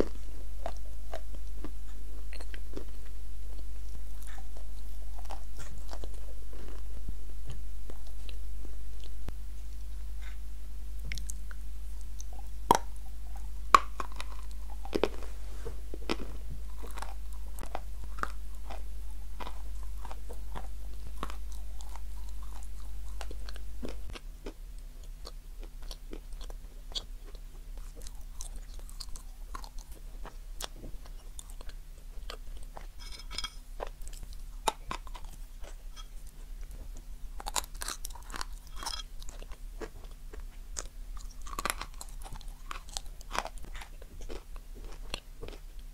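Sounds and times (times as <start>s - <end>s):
chewing crunchy chalk: 0.0s - 6.9s, 11.1s - 45.9s
steady low hum: 0.0s - 45.9s.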